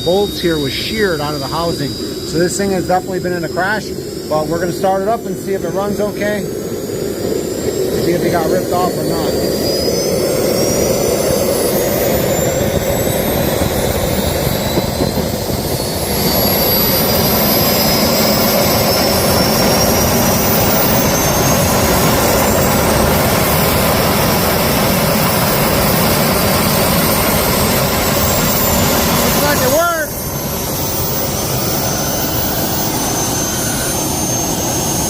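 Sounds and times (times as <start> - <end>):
jet engine roar with turbine whine: 0.0 - 35.0.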